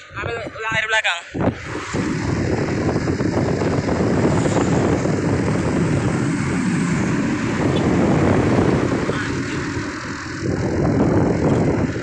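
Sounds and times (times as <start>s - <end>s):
diesel truck engine running: 1.3s - 12.0s.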